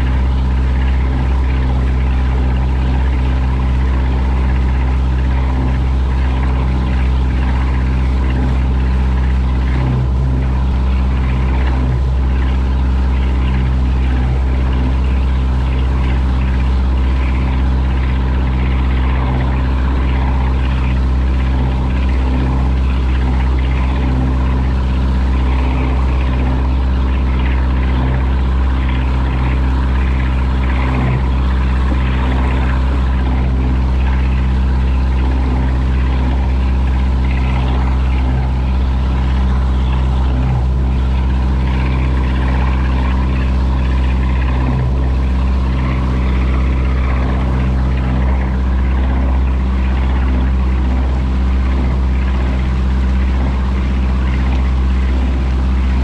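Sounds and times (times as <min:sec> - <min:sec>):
boat engine running: 0:00.0 - 0:56.0
water rushing in wake: 0:00.0 - 0:56.0.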